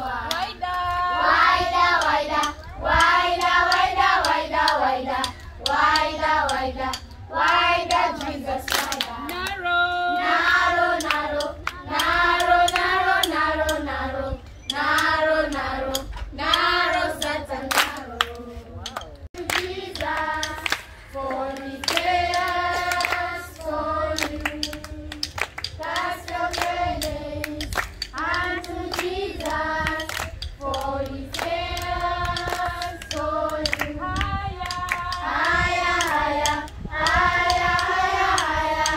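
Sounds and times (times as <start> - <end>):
children and women singing: 0.0 - 38.9
hand clapping: 1.9 - 13.9, 14.7 - 38.9.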